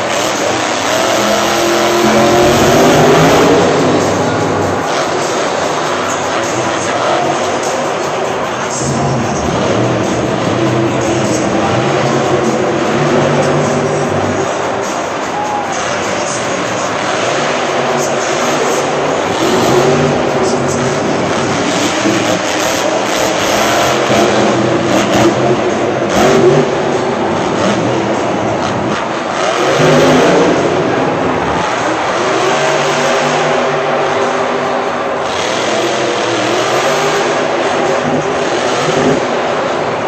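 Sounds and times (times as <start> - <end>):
truck engine revving: 0.0 - 40.0.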